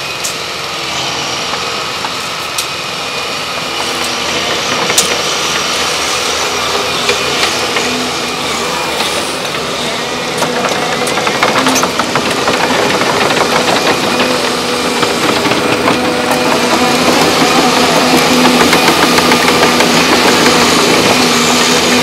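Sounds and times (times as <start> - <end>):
excavator diesel engines running: 0.0 - 22.0.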